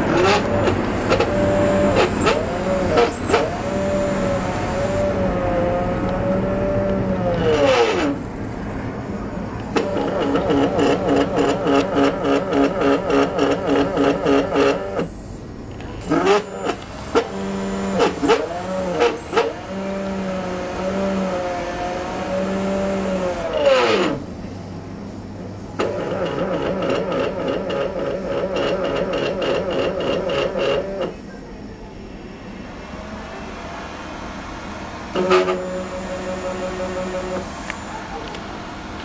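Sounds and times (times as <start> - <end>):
stepper motors gliding whine: 0.0 - 39.0
stepper motors pulsing whine: 0.0 - 39.0.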